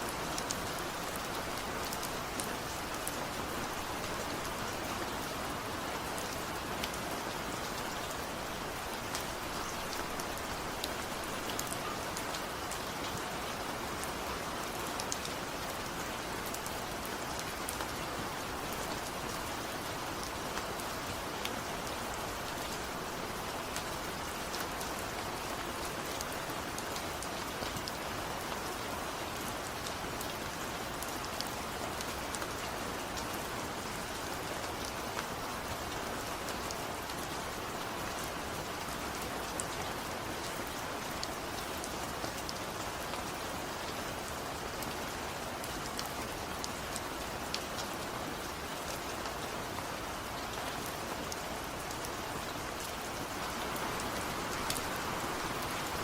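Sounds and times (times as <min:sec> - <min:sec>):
rain pattering on hard surface: 0:00.1 - 0:56.0.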